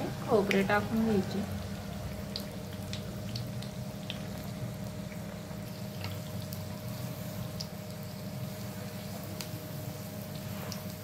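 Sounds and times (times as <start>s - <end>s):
dough deep-frying in oil: 0.0s - 11.0s.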